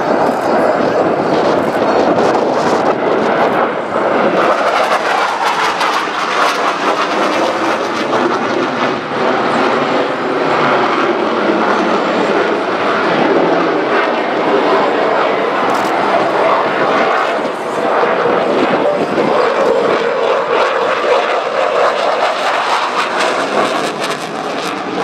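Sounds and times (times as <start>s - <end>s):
fighter jet engines roaring: 0.0s - 25.0s.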